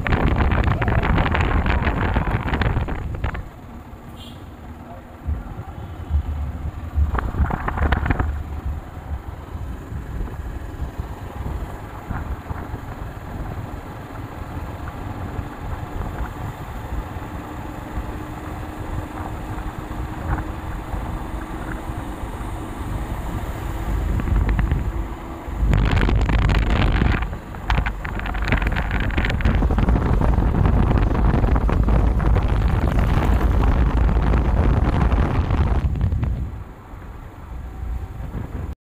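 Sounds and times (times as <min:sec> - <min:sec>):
wind buffeting microphone: 0:00.0 - 0:04.0, 0:05.1 - 0:38.8
motorcycle engine hum: 0:00.0 - 0:38.8
road noise: 0:00.0 - 0:38.8.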